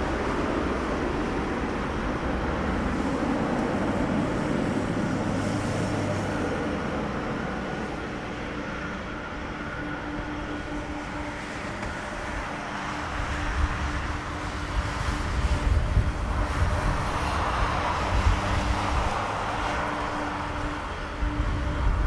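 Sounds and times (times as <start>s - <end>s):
jet engines rumbling at takeoff: 0.0s - 22.0s.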